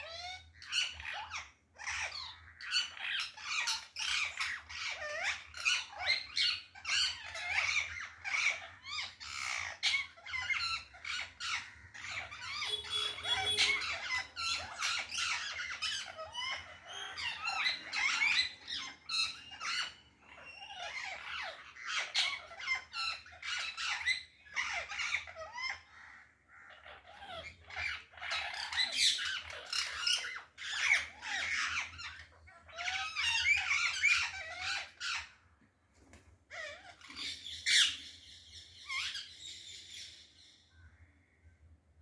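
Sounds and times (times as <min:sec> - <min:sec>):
parrots calling loudly: 0:00.0 - 0:35.6, 0:36.5 - 0:41.6.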